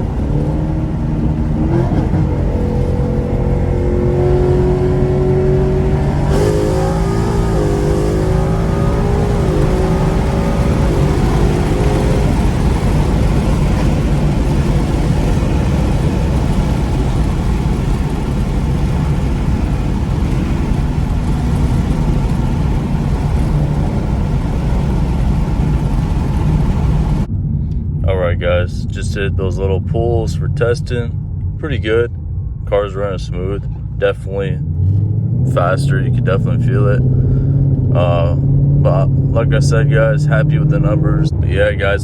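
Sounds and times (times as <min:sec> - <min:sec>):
car engine accelerating: 0:00.0 - 0:42.0
road and wind noise: 0:00.0 - 0:42.0.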